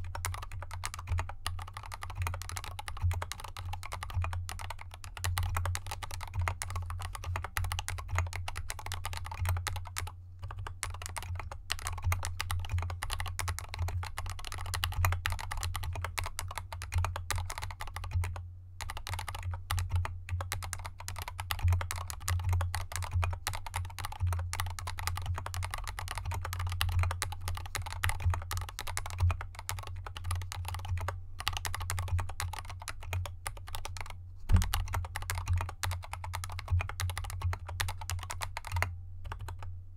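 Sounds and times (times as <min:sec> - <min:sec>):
fast typing on mechanical keyboard: 0:00.0 - 0:39.7.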